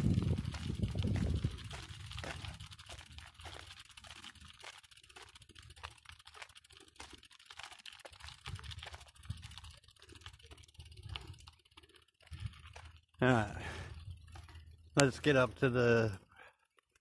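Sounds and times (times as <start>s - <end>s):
bike clicking and rattling: 0.0s - 17.0s.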